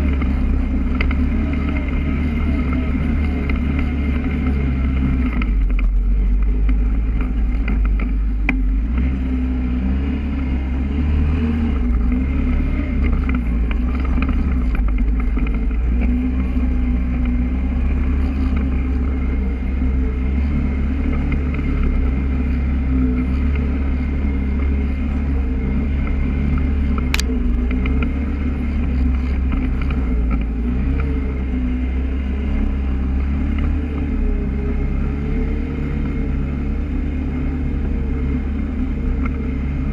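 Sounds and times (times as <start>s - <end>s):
atv engine humming: 0.0s - 39.9s.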